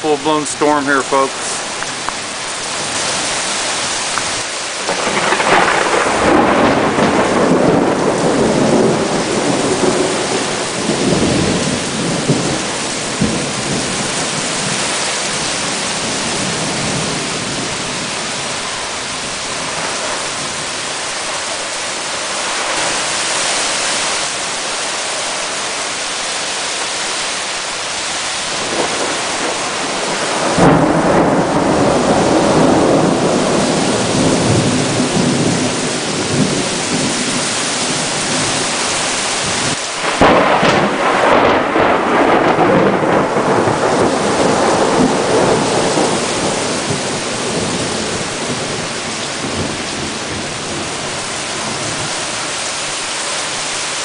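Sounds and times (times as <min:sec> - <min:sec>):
thunder rumbling: 0:00.0 - 0:23.6, 0:28.1 - 0:52.4
heavy rain pouring: 0:00.0 - 0:54.0.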